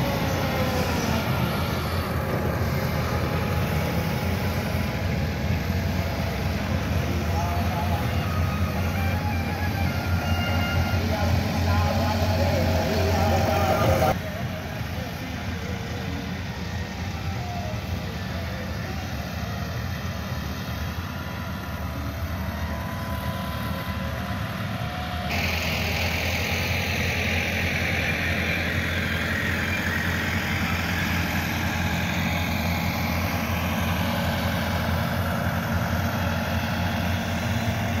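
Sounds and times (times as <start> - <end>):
tractor diesel engines running: 0.0 - 38.0.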